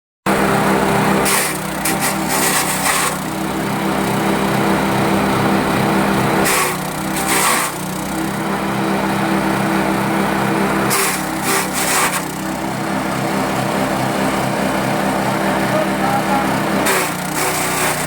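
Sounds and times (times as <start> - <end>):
grass chopper engine running: 0.3 - 18.0.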